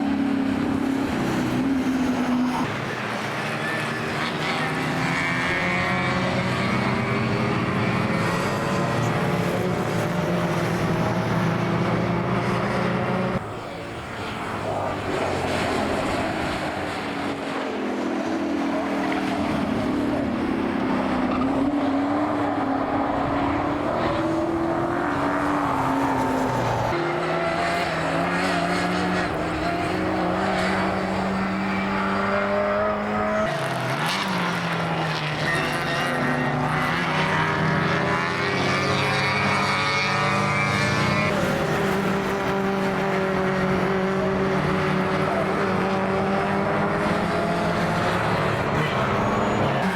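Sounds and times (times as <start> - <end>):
racing car engine accelerating: 0.0 - 49.9.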